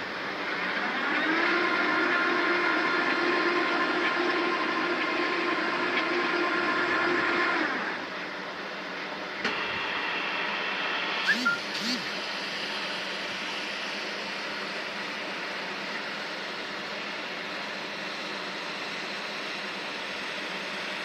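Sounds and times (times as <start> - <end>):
welding machine whine: 0.0 - 8.2, 9.4 - 21.0.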